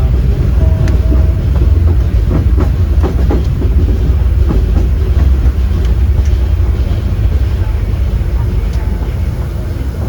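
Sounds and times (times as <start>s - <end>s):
clacks over rail joints: 0.0s - 10.0s
train wheels rumbling on rails: 0.0s - 10.0s.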